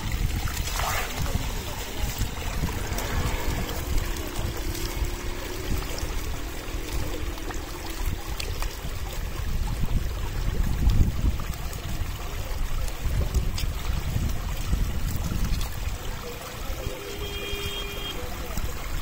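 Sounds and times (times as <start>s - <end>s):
water flowing through channel: 0.0s - 19.0s.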